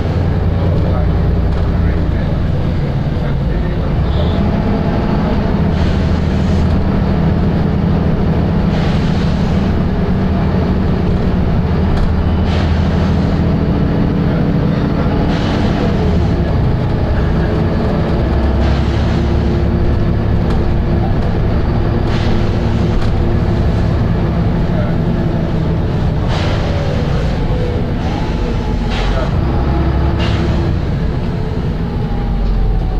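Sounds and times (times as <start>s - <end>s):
bus diesel engine droning: 0.0s - 32.9s.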